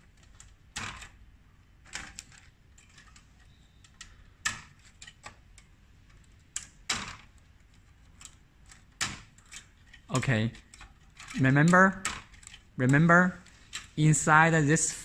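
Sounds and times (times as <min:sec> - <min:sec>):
plastic connectors clicking and scraping: 0:00.0 - 0:14.3.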